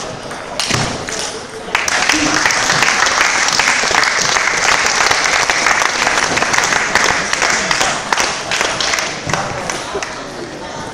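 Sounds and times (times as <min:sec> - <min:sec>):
spectators clapping: 0:00.6 - 0:10.3.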